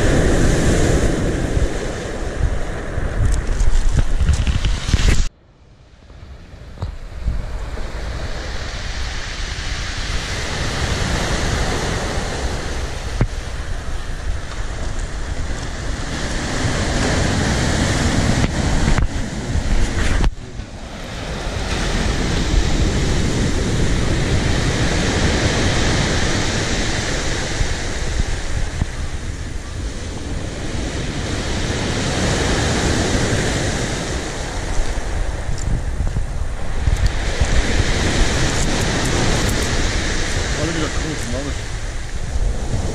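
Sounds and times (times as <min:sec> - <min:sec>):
sea surf washing in and out: 0:00.0 - 0:42.9
wind rumbling on microphone: 0:00.0 - 0:42.9.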